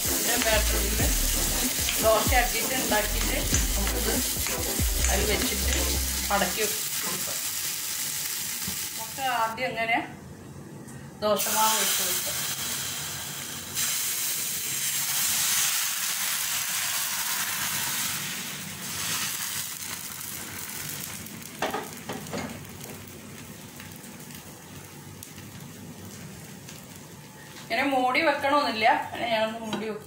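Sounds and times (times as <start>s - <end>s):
batter sizzling in a frying pan: 0.0s - 9.6s, 11.4s - 28.0s.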